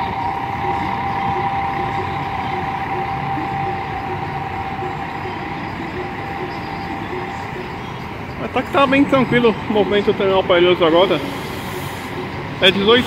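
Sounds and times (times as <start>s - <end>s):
bus engines and traffic hum: 0.0s - 13.0s
constant whine: 0.0s - 13.0s.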